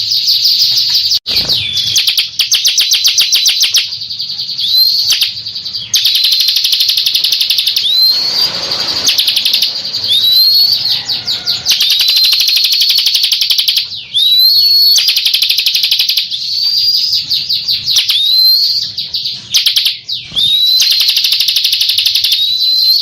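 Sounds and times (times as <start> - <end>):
bird singing high trills: 0.0 - 23.0.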